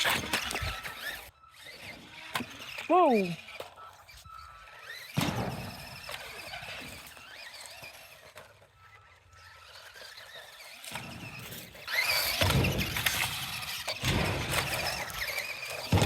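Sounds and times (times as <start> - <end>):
toy car electric motor whining: 0.0 - 16.0.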